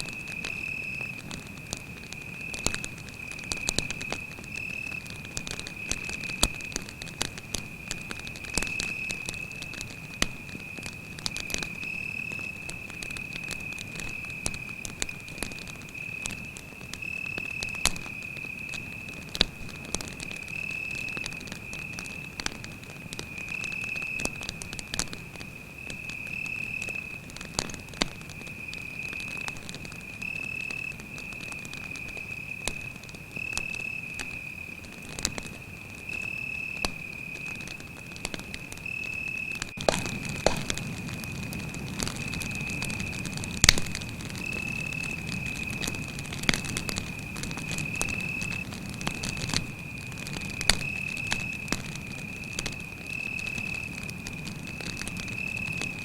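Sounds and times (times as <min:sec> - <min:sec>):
campfire crackling and popping: 0:00.0 - 0:56.0
crickets trilling: 0:00.0 - 0:56.0.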